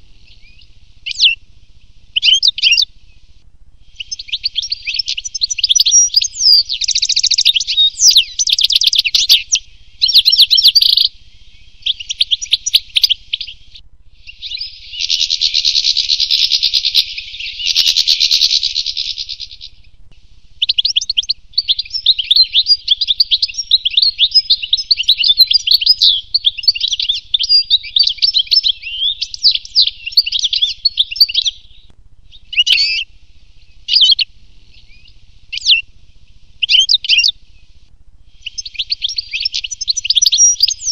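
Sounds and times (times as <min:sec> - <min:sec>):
goldfinch twittering song: 0:00.2 - 0:01.4, 0:02.1 - 0:02.9, 0:03.9 - 0:19.9, 0:20.6 - 0:35.8, 0:36.6 - 0:37.7, 0:38.4 - 0:40.9.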